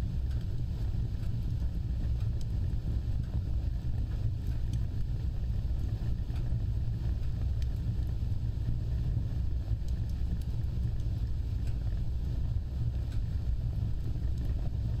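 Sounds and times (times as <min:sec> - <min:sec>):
fire crackles: 0:00.0 - 0:15.0
fire rumbling: 0:00.0 - 0:15.0.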